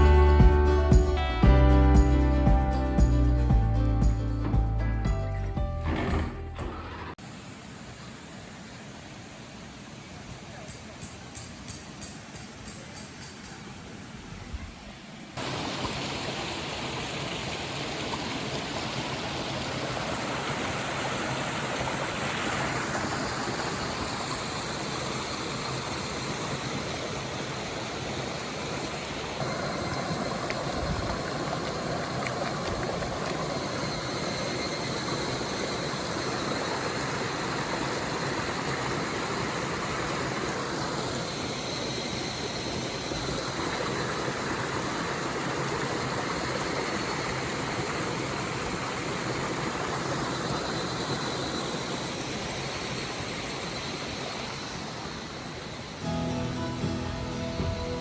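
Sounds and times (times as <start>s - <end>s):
stream water rushing: 7.2s - 58.0s.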